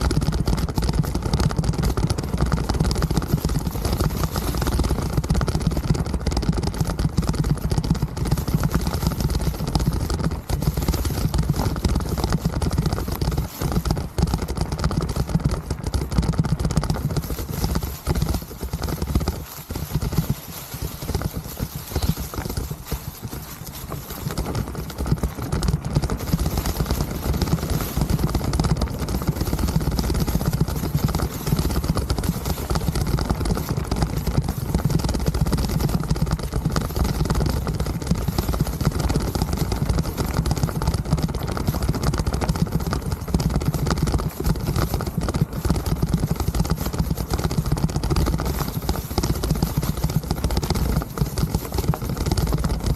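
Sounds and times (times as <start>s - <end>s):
mountain bike rattling on rough trail: 0.0s - 52.9s.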